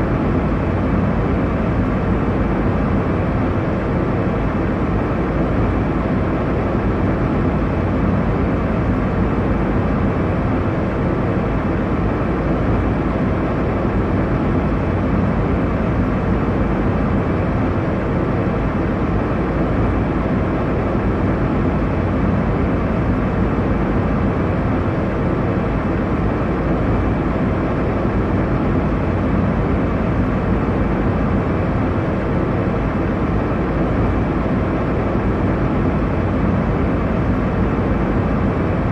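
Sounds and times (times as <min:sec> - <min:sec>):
airliner cabin engine noise: 0:00.0 - 0:38.9.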